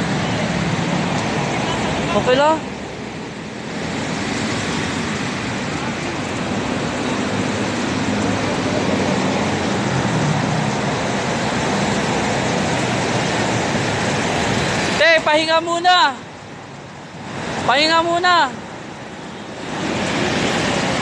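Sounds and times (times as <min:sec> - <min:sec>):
traffic hiss on wet road: 0:00.0 - 0:21.0.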